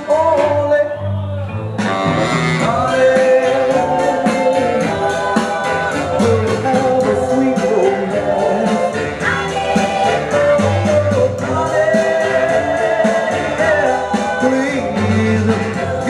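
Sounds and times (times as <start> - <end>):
loud dance music with singing: 0.0 - 16.0.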